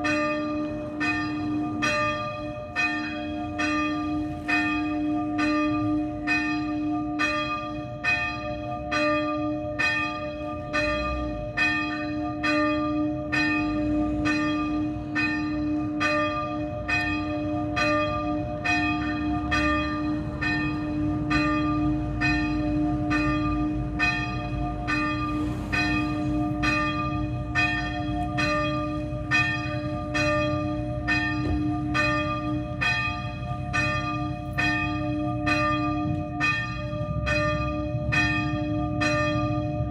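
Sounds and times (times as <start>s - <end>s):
small church bell ringing: 0.0s - 39.9s.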